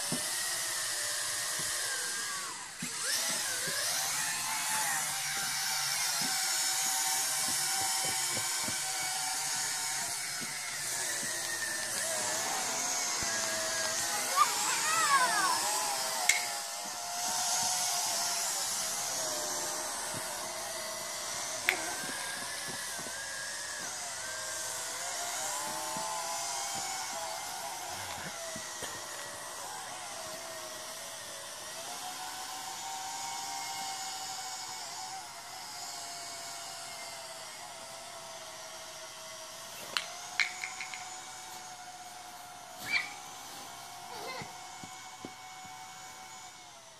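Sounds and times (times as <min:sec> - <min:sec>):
toy drone motors whining: 0:00.0 - 0:46.9.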